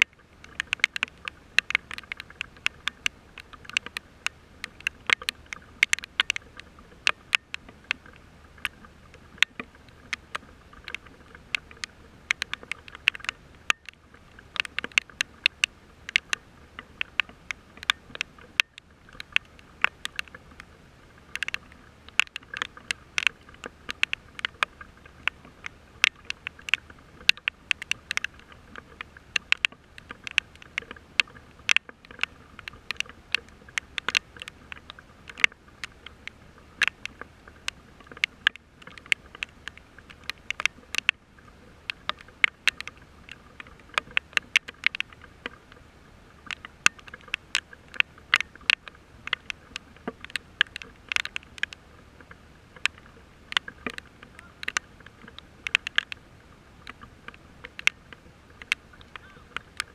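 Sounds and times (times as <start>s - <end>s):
faint steady hum: 0.0s - 59.9s
raindrops ticking on microphone: 0.0s - 59.9s.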